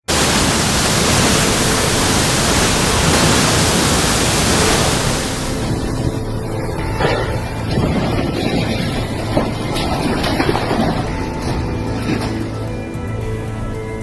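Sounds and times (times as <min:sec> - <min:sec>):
storm weather rushing noise: 0:00.0 - 0:14.0.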